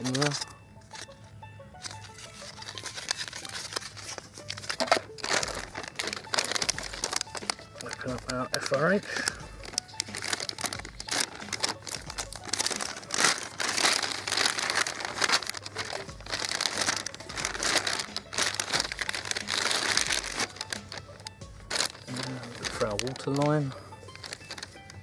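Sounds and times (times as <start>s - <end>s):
foil and plastic packaging crinkling: 0.0s - 1.2s, 1.8s - 25.0s.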